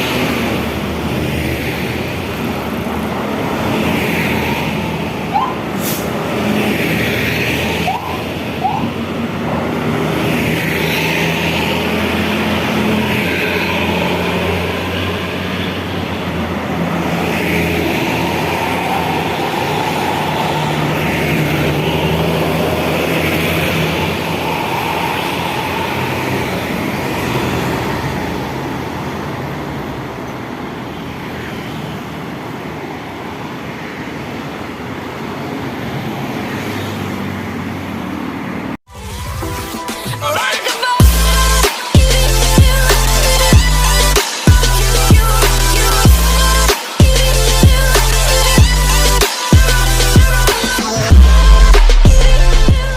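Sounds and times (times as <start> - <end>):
buses and traffic driving past: 0.0 - 52.9.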